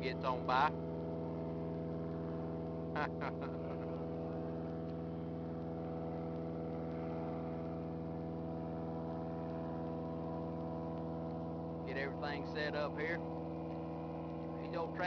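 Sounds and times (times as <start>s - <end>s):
airboat engine and propeller: 0.0s - 15.0s.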